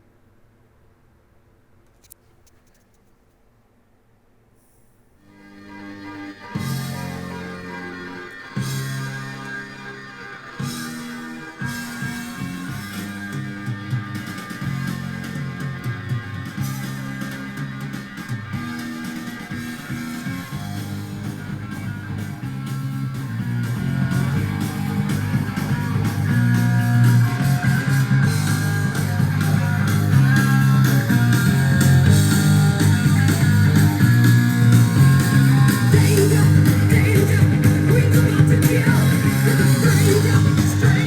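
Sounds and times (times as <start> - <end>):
rock music over speakers: 5.3 - 41.0.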